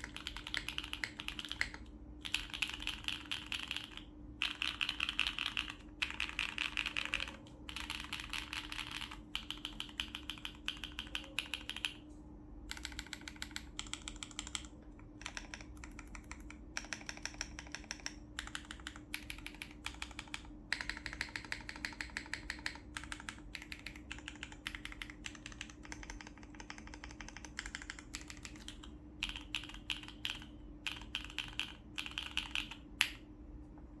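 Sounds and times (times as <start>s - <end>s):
mechanical keyboard typing: 0.0s - 12.0s, 12.7s - 33.2s
faint steady hum: 0.0s - 34.0s.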